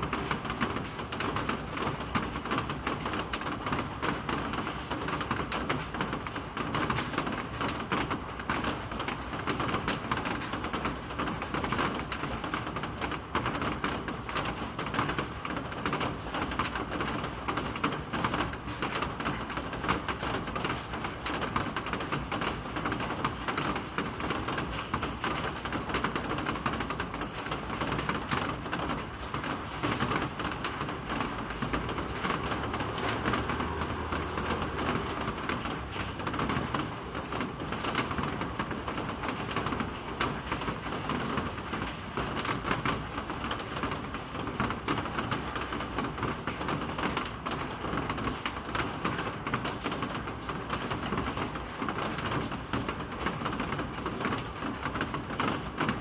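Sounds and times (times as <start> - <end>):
steady rain on hard surface: 0.0 - 56.0.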